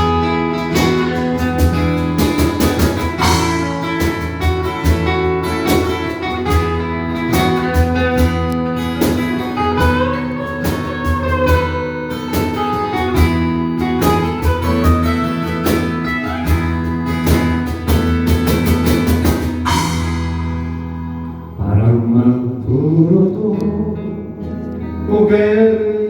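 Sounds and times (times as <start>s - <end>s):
held bass notes: 0.0s - 24.4s
guitars strumming: 0.0s - 26.0s.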